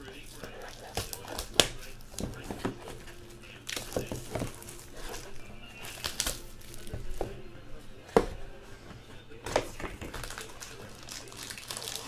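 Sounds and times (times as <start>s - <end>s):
wrapper crinkling and tearing: 0.0s - 7.3s, 9.5s - 12.0s
cards clicking and tapping: 0.0s - 12.0s.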